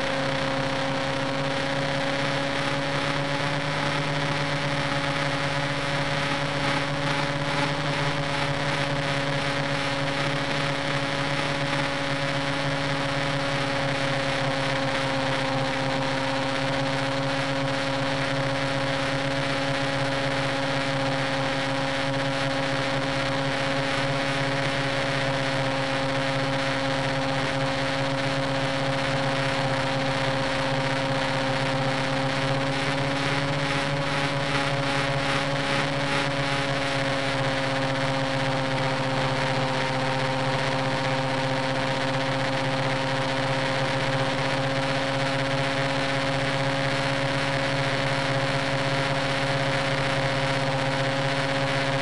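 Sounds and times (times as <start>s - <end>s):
model helicopter engine and rotor: 0.0s - 52.0s.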